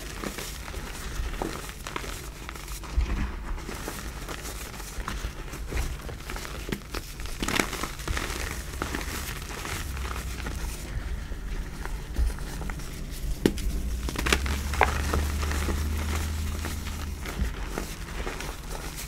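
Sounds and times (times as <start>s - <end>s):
chalk chunks crunching: 0.0s - 19.0s
hands crumbling chalk: 0.0s - 19.0s.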